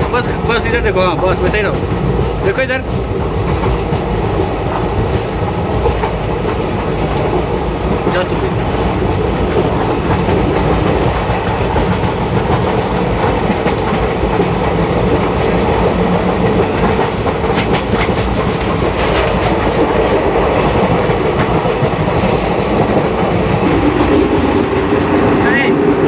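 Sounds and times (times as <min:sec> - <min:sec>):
train running gear rumble: 0:00.0 - 0:26.0.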